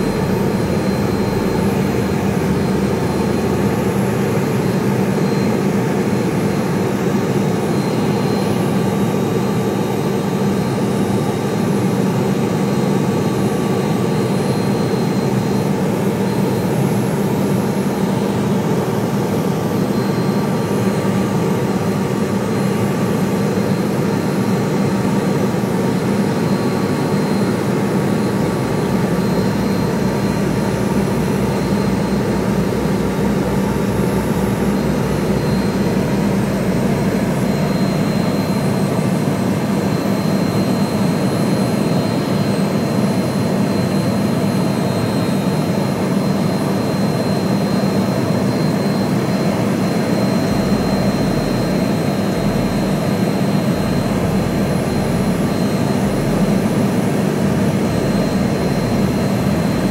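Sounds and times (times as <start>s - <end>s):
aircraft engine drone: 0.0s - 59.9s
faint high whine: 0.0s - 59.9s.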